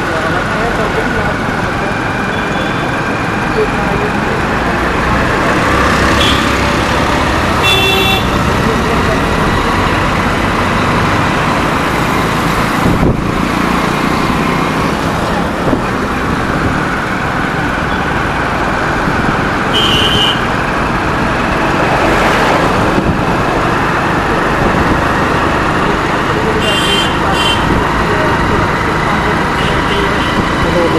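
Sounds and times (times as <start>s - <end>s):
road traffic noise: 0.0s - 30.9s.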